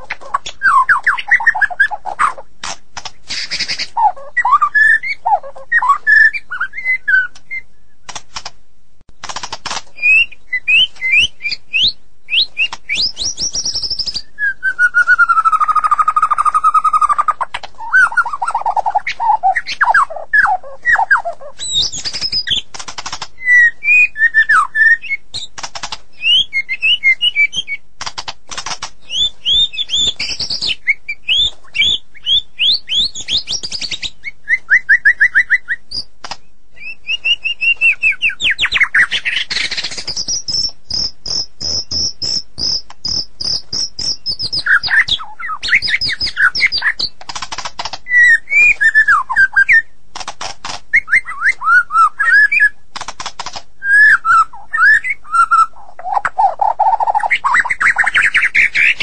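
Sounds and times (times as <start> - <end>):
bird singing varied song: 0.0 - 8.2, 9.4 - 50.0, 50.9 - 59.0.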